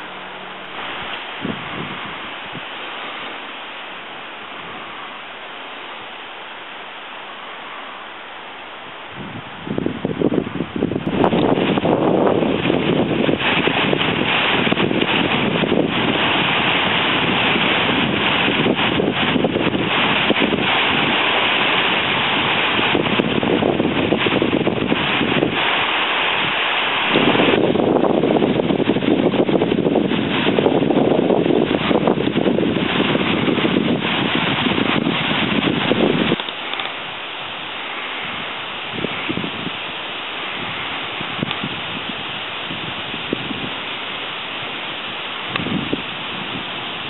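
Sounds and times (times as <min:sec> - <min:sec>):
river water rushing: 0:00.0 - 0:47.0
wind through trees and grass: 0:00.0 - 0:47.0.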